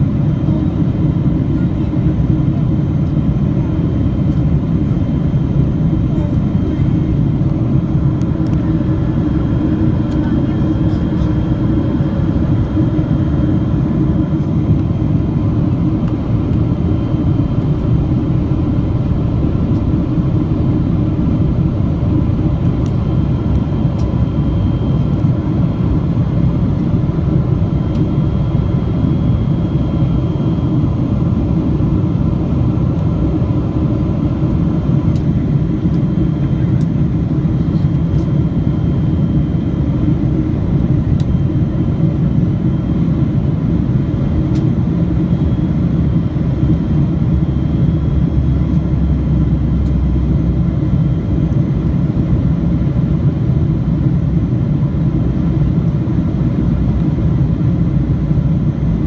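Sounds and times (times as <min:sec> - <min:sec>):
jet engine cabin drone: 0:00.0 - 0:59.0.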